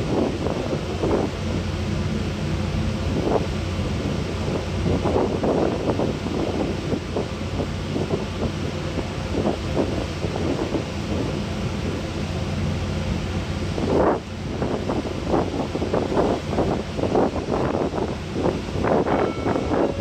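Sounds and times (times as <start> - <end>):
ferry engines humming: 0.0 - 20.0
wind gusting on microphone: 0.0 - 20.0.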